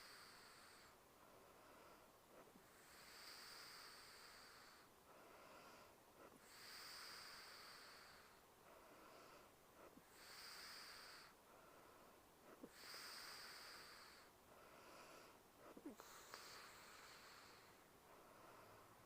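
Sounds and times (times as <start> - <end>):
girl breathing softly: 0.0 - 19.0.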